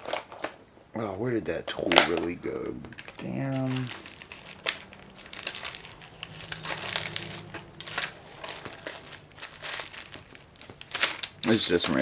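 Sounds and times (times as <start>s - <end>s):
hands rummaging through small parts: 0.0s - 0.6s, 1.9s - 12.0s.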